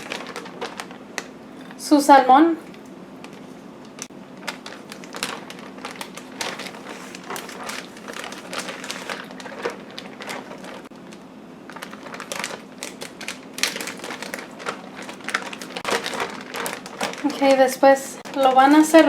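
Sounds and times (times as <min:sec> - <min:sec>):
plastic bag crinkling: 0:00.0 - 0:01.8, 0:02.6 - 0:19.0.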